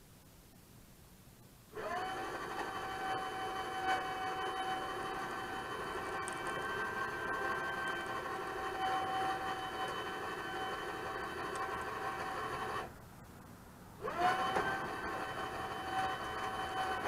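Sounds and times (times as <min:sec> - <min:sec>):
electric winch whining: 0:01.8 - 0:13.0, 0:14.0 - 0:17.0.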